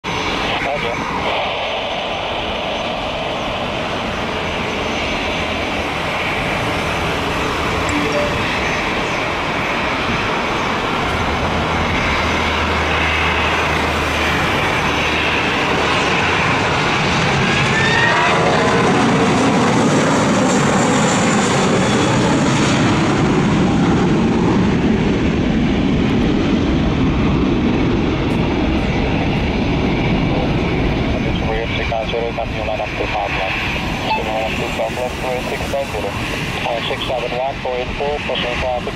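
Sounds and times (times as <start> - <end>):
jet engines roaring overhead: 0.0 - 38.9
falling jet whine: 0.1 - 37.6.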